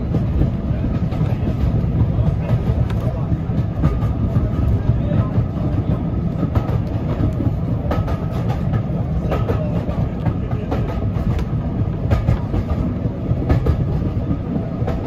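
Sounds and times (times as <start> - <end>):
train coach rumbling: 0.0 - 15.0
wheels clicking over rail joints: 0.0 - 15.0.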